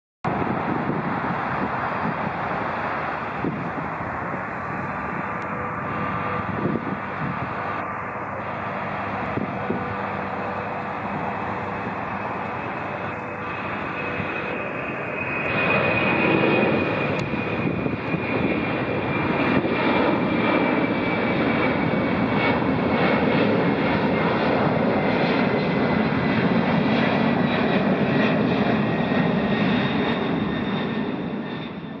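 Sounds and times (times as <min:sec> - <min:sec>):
jet engine rumble: 0:00.2 - 0:32.0
high jet fan whine: 0:00.3 - 0:32.0.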